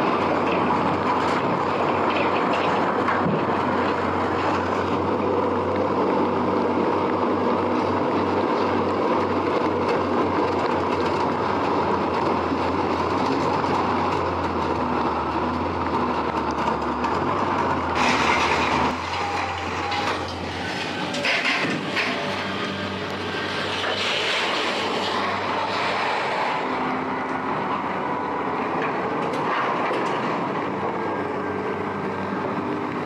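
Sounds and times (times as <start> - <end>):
loud mechanical running noise: 0.0 - 33.0.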